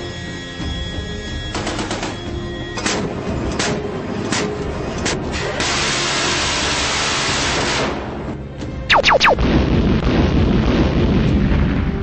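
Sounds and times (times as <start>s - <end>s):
music: 0.0s - 9.8s.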